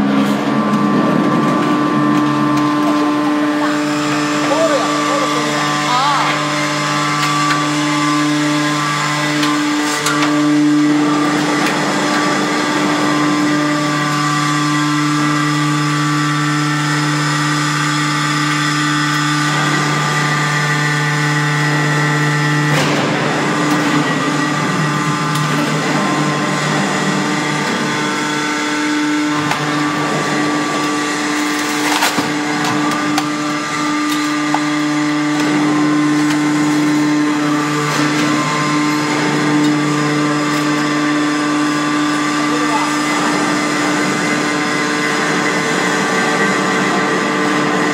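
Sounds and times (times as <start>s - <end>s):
hydraulic power unit humming: 0.0s - 47.9s.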